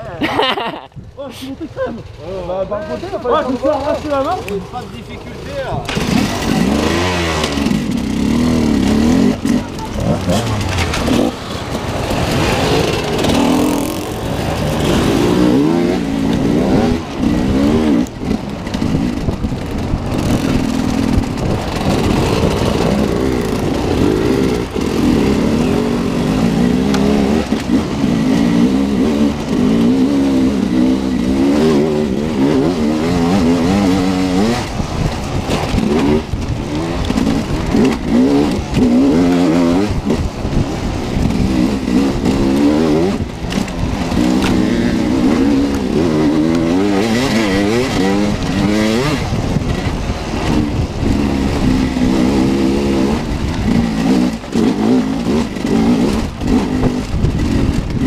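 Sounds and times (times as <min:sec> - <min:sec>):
dirt bike engine revving: 0:02.8 - 0:58.0.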